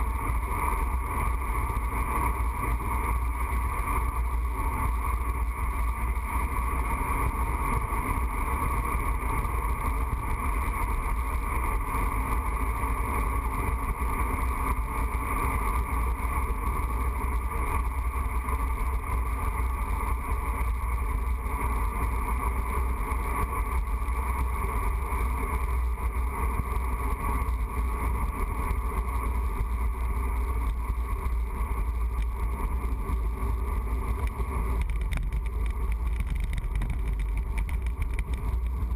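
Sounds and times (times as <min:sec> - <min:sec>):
constant hum: 0:00.0 - 0:38.9
road rumble: 0:00.0 - 0:38.9.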